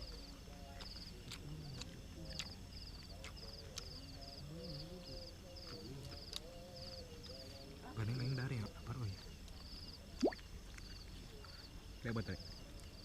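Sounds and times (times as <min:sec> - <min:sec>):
crickets chirping: 0:00.0 - 0:13.0
faint distant voices: 0:00.0 - 0:13.0.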